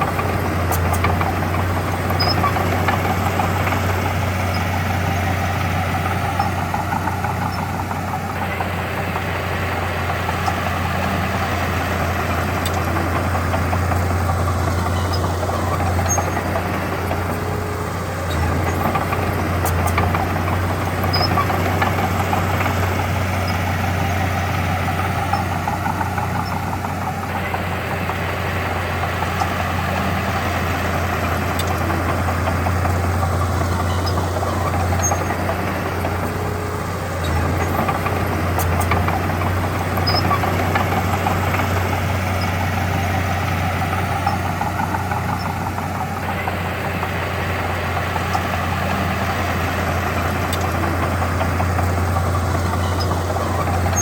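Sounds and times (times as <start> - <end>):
diesel engine low hum: 0.0 - 54.0.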